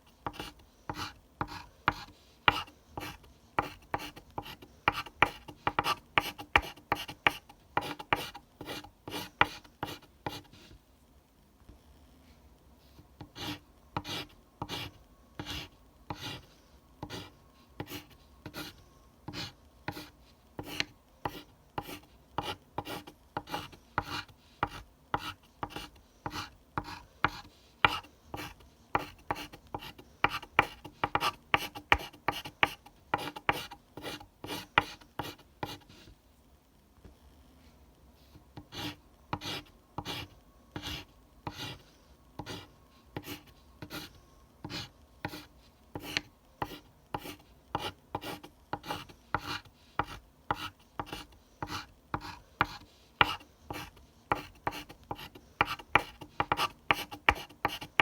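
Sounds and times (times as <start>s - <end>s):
pencil scratching on paper: 0.2s - 10.8s, 13.3s - 36.1s, 38.2s - 58.0s.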